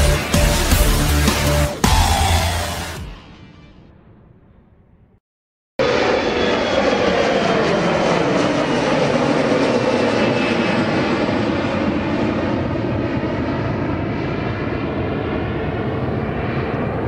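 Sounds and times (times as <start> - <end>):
jet airliner engines whining: 0.0 - 4.0, 5.8 - 17.0.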